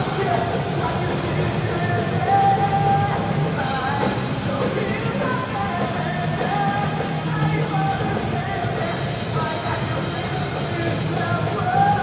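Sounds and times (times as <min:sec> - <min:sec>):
drum kit: 0:00.0 - 0:12.0
electric guitars: 0:00.0 - 0:12.0.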